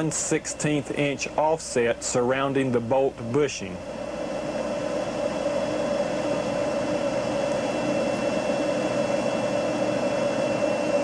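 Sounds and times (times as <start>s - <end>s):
droning hum: 0.0s - 11.0s.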